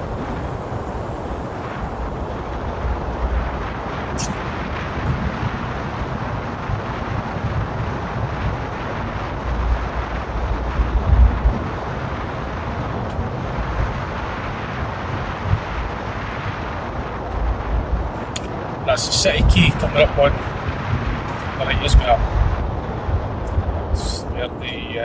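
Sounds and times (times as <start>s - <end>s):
car road and engine noise: 0.0s - 25.0s
wind buffeting microphone: 0.0s - 25.0s.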